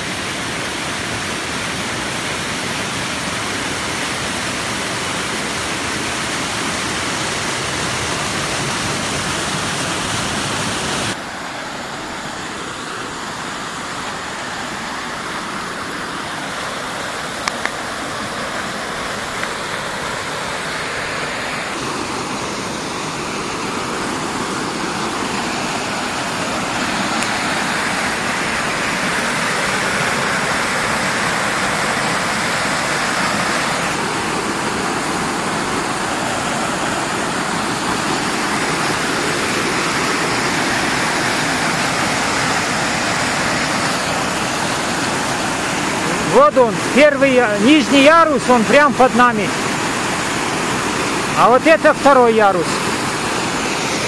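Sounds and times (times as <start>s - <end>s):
water roaring over rocks: 0.0s - 54.0s.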